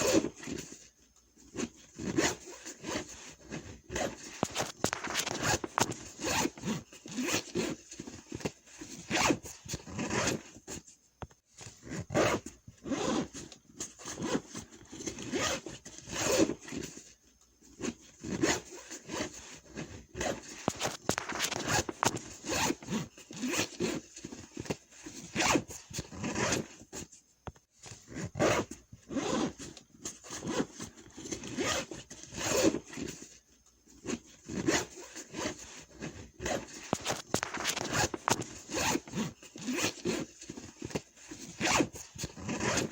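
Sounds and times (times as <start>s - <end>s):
zipper and fabric rasping: 0.0s - 10.8s, 11.5s - 27.1s, 27.8s - 42.9s.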